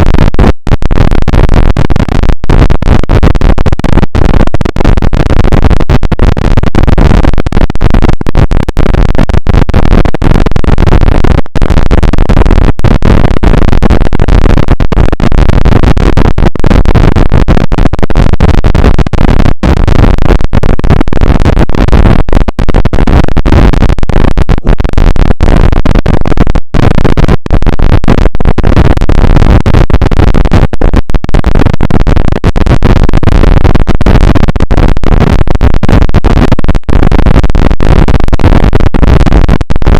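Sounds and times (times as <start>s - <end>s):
distorted rumbling and crackling: 0.0s - 39.9s.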